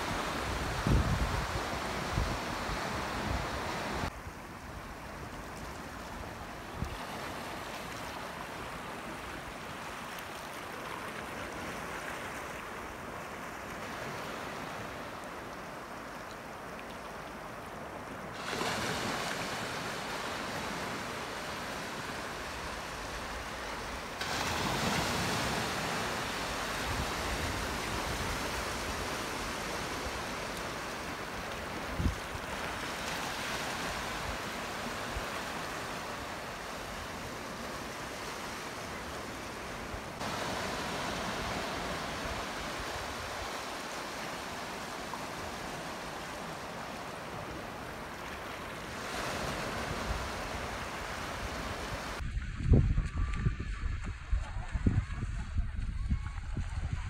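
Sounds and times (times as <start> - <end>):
waves washing on shore: 0.0 - 52.5.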